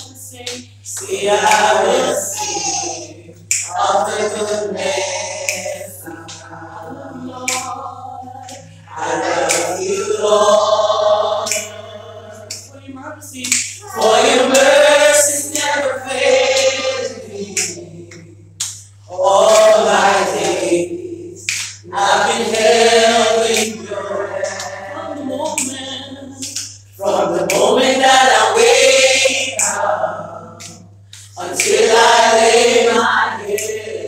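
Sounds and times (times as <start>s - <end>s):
voices singing a cappella gospel: 0.0s - 34.0s.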